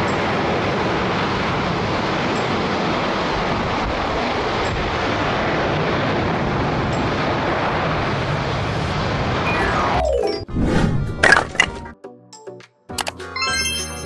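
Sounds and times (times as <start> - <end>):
jet engines rushing: 0.0 - 11.8.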